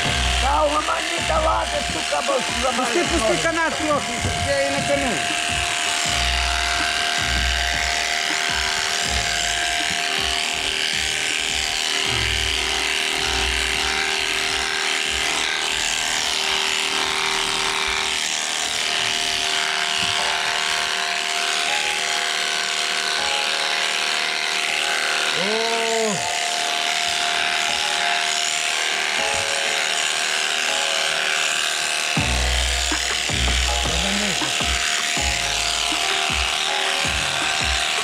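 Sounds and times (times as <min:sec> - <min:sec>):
electric shears humming: 0:00.0 - 0:38.0.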